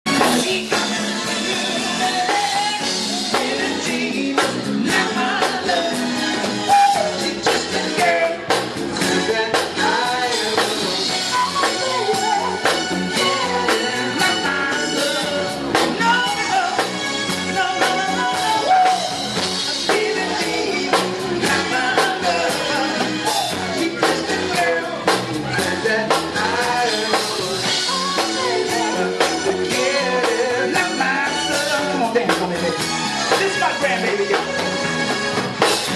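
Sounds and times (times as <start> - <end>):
man singing: 0.1 - 34.7
instrumental music with beat: 0.1 - 35.9.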